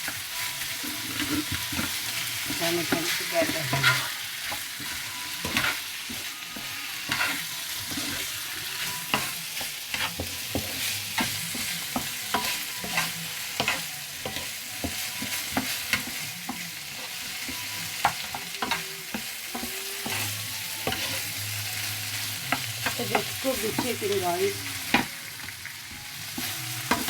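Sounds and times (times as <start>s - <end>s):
utensil scraping a pan: 0.0s - 24.1s
food sizzling in a pan: 0.0s - 27.0s.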